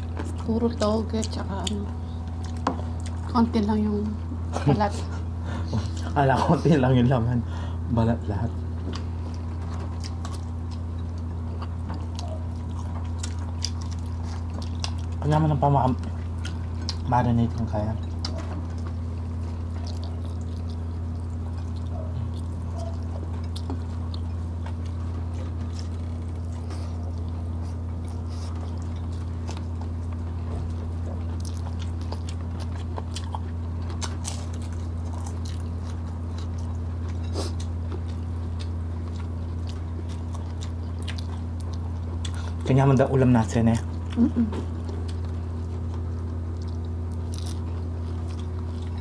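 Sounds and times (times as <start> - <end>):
chewing: 0.0 - 3.6, 8.5 - 49.0
steady low hum: 0.0 - 49.0.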